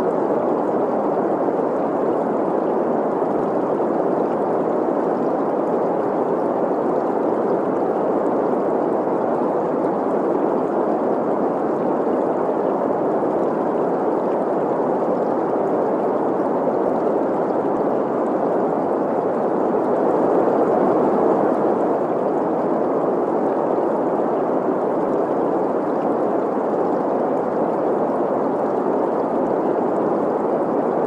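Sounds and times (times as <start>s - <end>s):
stream gurgling: 0.0s - 31.0s.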